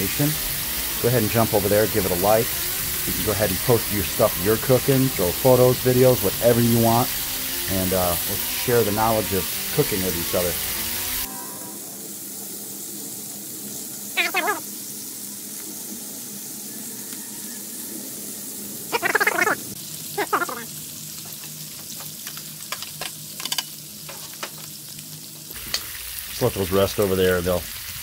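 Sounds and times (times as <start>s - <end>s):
bacon sizzling on a griddle: 0.0s - 28.0s.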